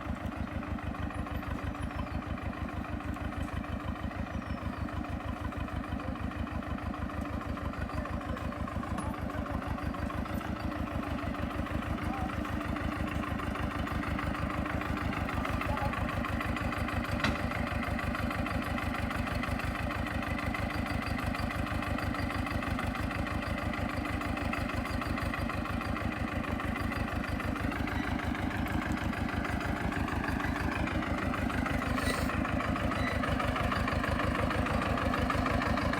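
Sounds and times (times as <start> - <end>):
diesel tractor engine idling: 0.0 - 35.9.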